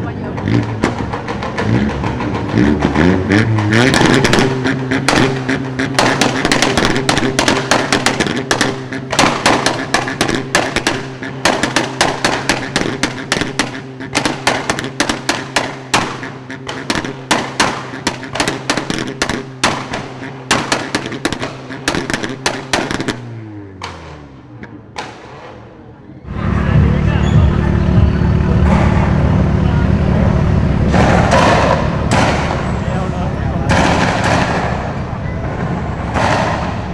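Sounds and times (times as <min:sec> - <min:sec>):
car engine at high revs: 0:00.0 - 0:36.9
exhaust pops and bangs: 0:00.2 - 0:25.9, 0:26.6 - 0:36.9.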